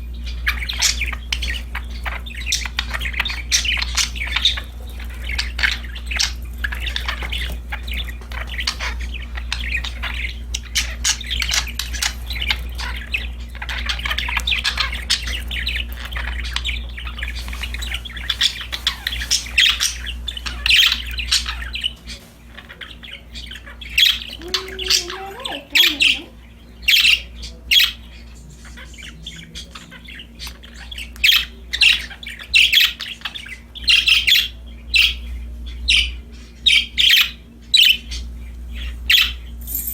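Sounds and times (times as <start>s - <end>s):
budgerigars chattering and chirping: 0.0s - 39.9s
steady low hum: 0.0s - 39.9s.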